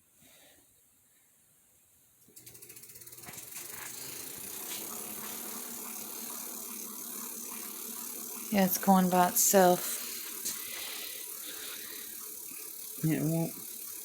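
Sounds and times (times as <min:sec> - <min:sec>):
hub motor clicking and whirring: 0:02.2 - 0:14.0.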